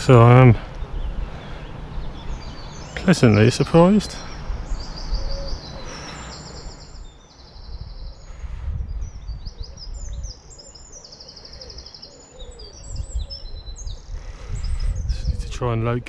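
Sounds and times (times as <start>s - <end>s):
wind buffeting microphone: 0.0s - 11.0s, 12.4s - 16.0s
songbirds singing: 0.0s - 16.0s.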